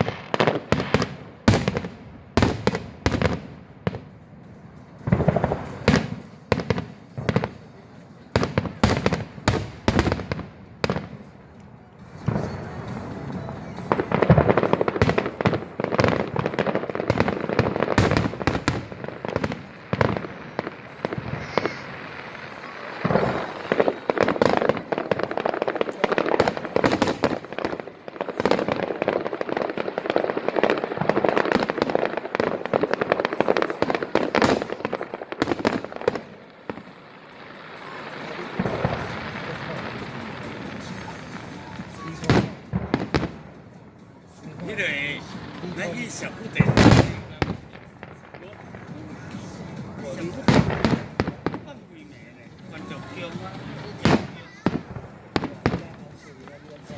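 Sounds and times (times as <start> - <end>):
firework bangs: 0.0 - 56.9
fireworks crackling: 0.0 - 56.9.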